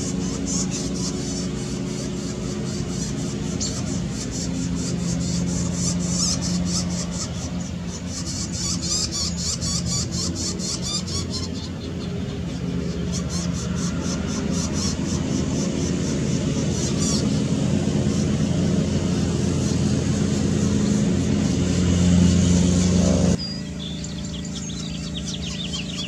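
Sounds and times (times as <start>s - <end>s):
low engine drone: 0.0s - 26.0s
nestlings high-pitched begging calls: 0.0s - 26.0s.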